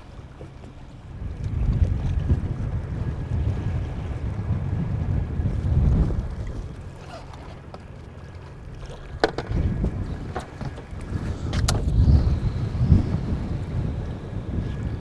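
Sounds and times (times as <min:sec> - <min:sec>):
strong wind buffeting microphone: 0:00.8 - 0:15.0.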